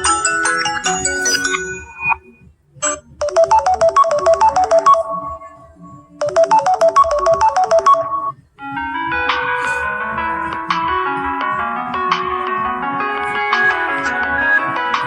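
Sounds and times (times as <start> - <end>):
phone ringtone synthesized notes: 0.0 - 15.0.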